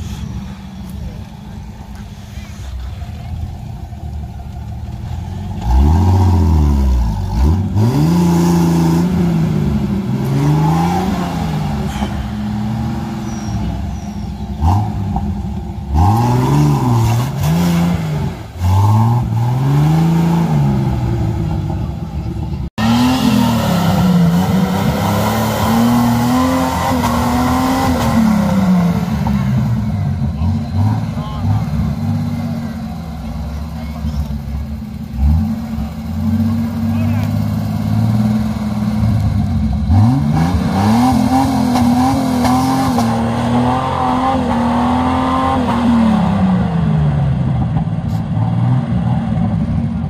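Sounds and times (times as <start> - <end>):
off-road engine revving: 0.0 - 50.0.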